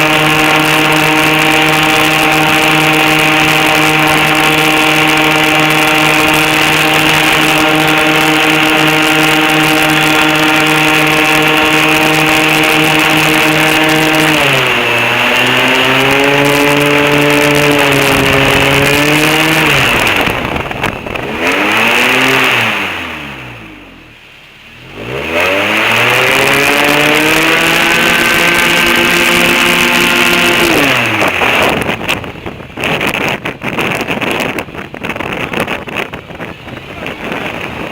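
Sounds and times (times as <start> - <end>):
airboat engine and propeller: 0.0 - 37.9.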